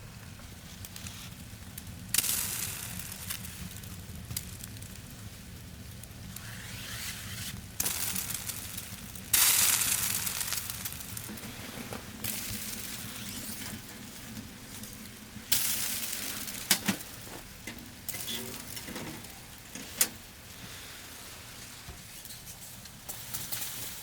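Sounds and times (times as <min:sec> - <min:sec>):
wood fire crackling and hissing: 0:00.0 - 0:24.0.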